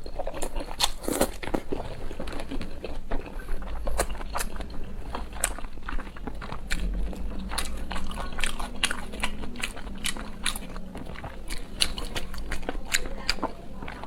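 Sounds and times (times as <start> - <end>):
crisp clicks and crunches: 0.0 - 14.0
low steady hum: 0.0 - 14.0
person biting and chewing: 0.0 - 14.0.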